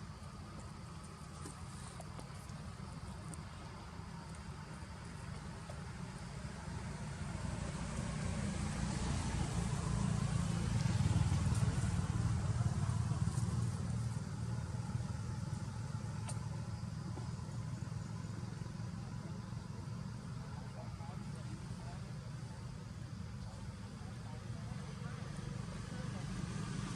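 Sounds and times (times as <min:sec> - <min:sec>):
passing motor vehicle rumble: 0:00.0 - 0:26.9.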